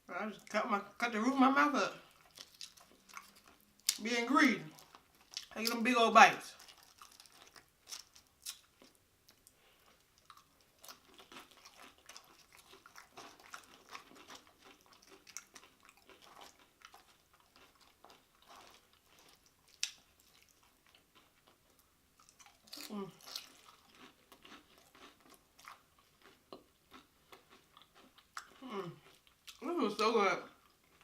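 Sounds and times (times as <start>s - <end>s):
chewing crunchy chips: 2.0s - 29.6s.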